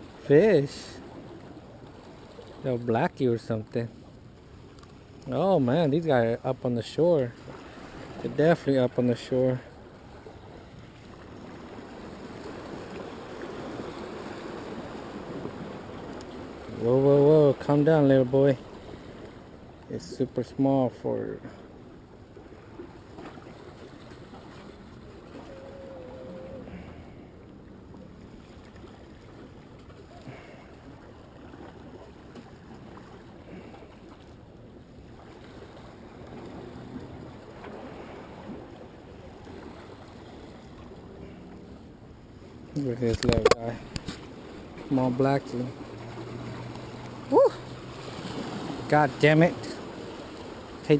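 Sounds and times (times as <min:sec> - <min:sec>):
ocean surf washing ashore: 0:00.0 - 0:50.9.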